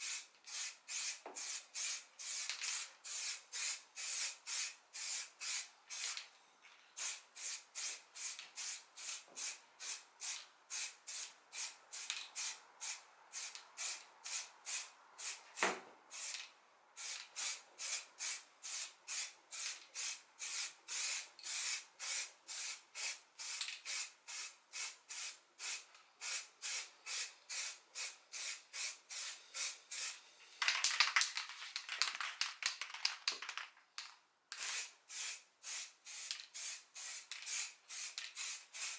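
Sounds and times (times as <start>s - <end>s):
spray paint hissing: 0.0s - 6.2s, 7.0s - 15.5s, 16.1s - 16.4s, 17.0s - 30.2s, 34.5s - 38.9s.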